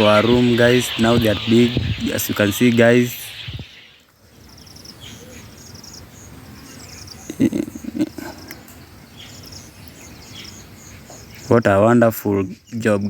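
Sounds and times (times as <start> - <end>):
crickets chirping: 0.0 - 11.5.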